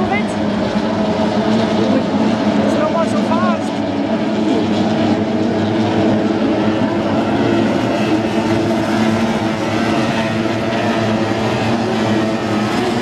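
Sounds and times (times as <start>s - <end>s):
race boat outboard engines droning: 0.0s - 13.0s.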